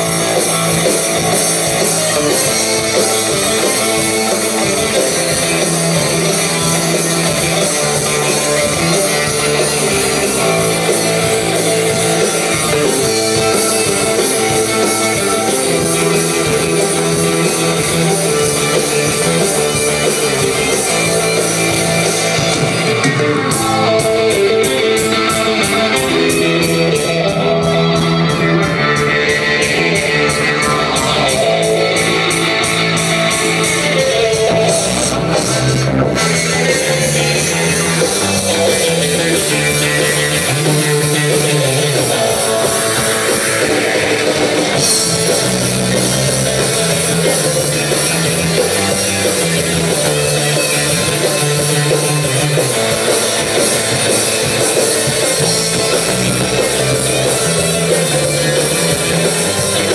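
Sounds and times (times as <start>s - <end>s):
electric guitars: 0.0s - 59.9s
rock band playing live: 0.0s - 59.9s.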